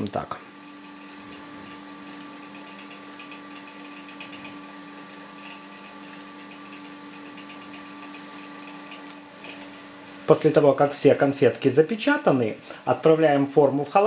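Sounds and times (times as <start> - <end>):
motor humming: 0.0 - 14.0.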